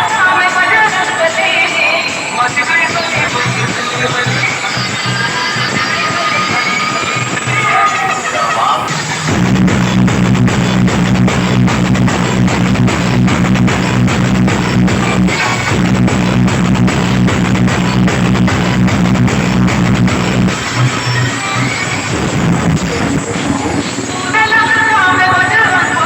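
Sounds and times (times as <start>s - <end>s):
loud music with heavy bass: 0.0s - 26.0s.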